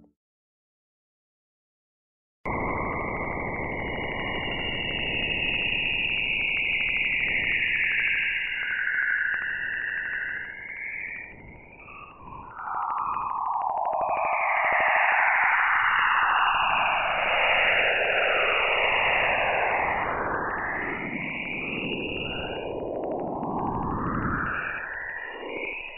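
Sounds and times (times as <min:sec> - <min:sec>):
wavering whistling tone: 0:02.6 - 0:25.9.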